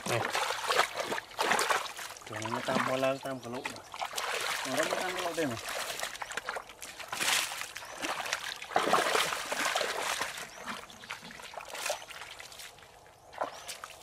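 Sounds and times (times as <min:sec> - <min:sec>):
feet wading through mud puddle: 0:00.0 - 0:14.0.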